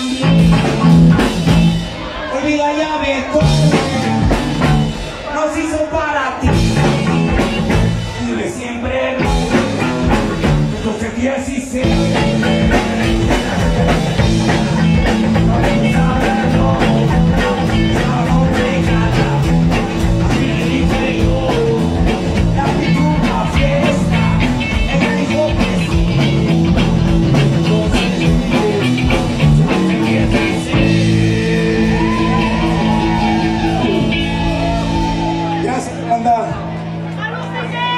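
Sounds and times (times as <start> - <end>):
electric guitar: 0.0 - 2.4, 3.2 - 5.3, 6.4 - 37.9
live rock band playing: 0.0 - 37.9.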